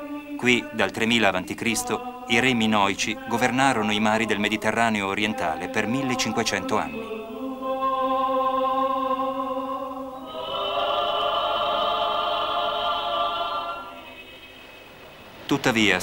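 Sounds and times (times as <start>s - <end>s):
wordless choir holding a chord: 0.0s - 15.3s.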